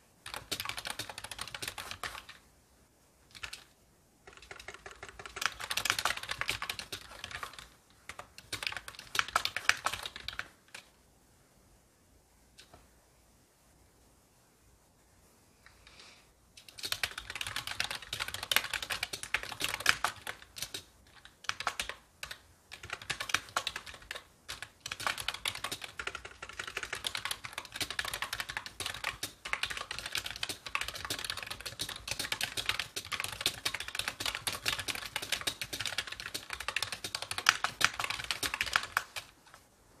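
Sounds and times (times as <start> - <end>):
fast typing on a keyboard: 0.2 - 2.4, 3.3 - 10.9, 16.6 - 39.5.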